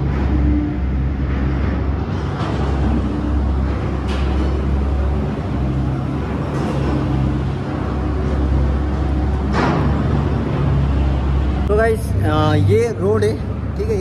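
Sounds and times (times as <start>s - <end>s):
heavy machinery droning: 0.0s - 14.0s.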